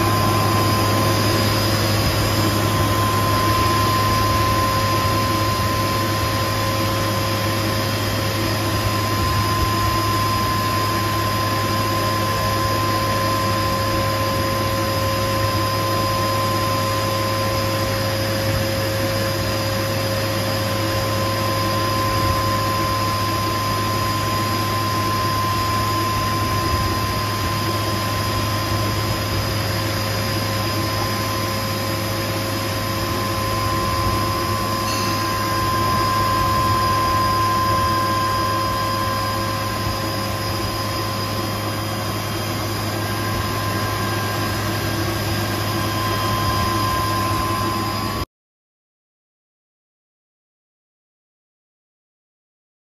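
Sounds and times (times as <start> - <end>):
grinding machine hum and whine: 0.0 - 48.3.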